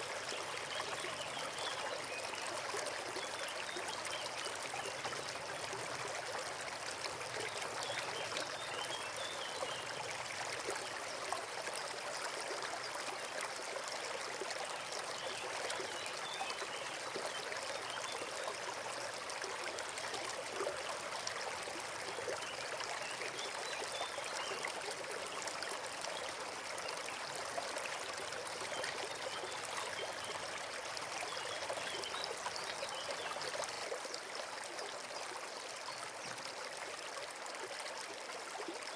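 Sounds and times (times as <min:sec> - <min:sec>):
stream flowing and trickling: 0:00.0 - 0:38.9.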